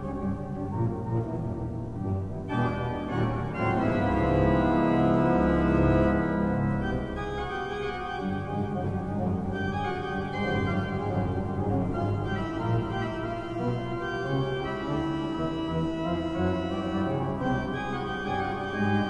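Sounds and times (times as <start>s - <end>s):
pipe organ playing chords: 0.0s - 19.0s.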